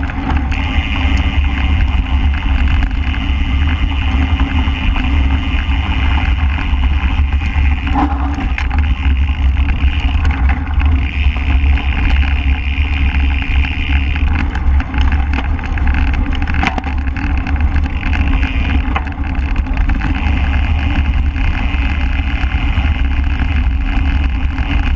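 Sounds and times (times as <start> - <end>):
bike knocking and rattling: 0.0 - 24.9
wind rumble: 0.0 - 24.9.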